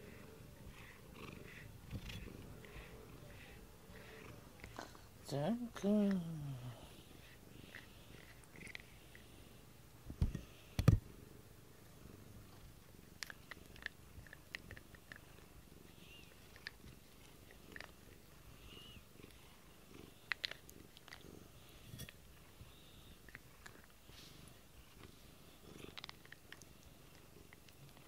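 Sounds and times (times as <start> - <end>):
cat purring: 0.0 - 9.6, 10.4 - 28.0.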